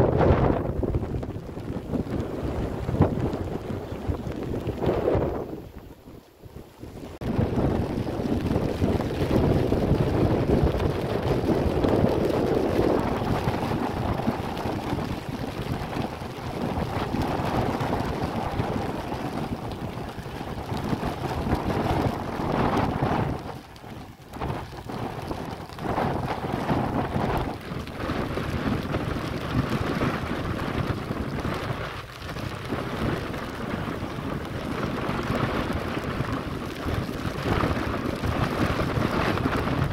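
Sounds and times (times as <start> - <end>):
storm wind buffeting microphone: 0.0 - 39.9.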